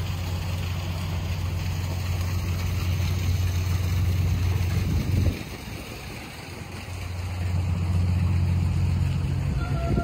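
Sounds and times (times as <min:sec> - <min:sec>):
engine idling hum: 0:00.0 - 0:10.0.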